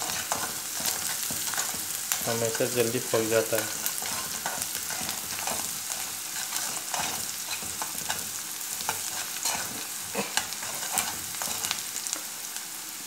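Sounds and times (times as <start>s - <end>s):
spatula scraping and knocking pan: 0.0s - 11.8s
onions sizzling in hot oil: 0.0s - 13.0s.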